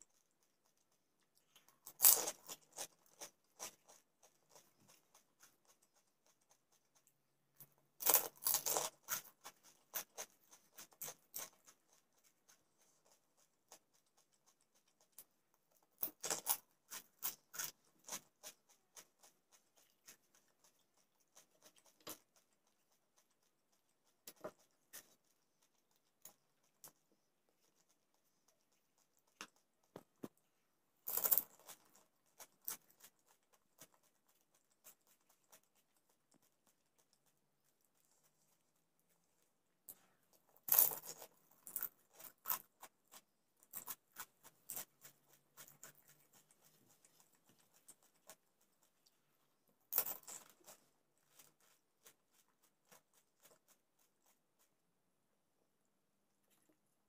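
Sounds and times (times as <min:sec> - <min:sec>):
soft chewing clicks: 0:00.0 - 0:57.0.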